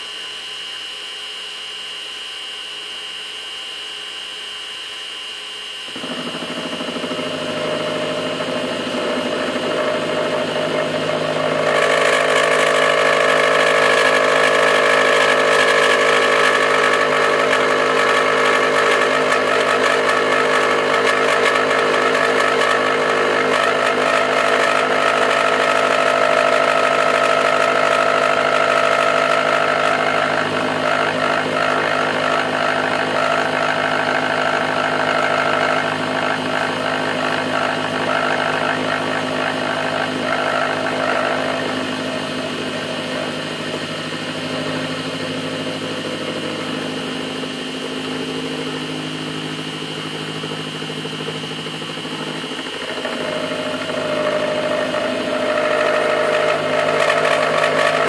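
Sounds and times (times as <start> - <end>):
milling machine whine: 0.0 - 58.0
end mill cutting steel: 6.0 - 58.0.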